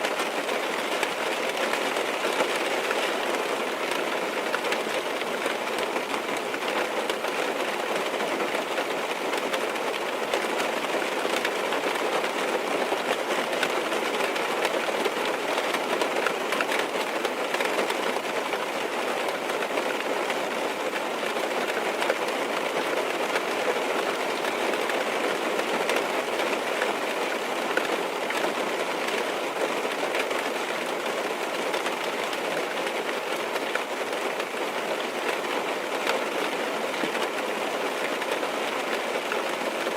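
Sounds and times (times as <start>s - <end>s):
rain pattering on car roof: 0.0s - 39.9s.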